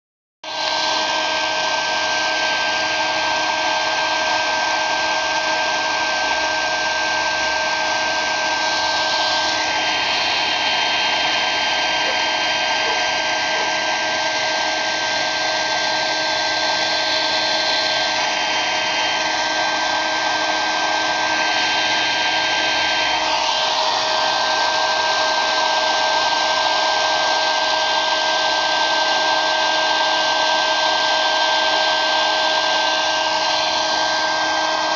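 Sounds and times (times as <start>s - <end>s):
hair dryer running: 0.4s - 34.9s.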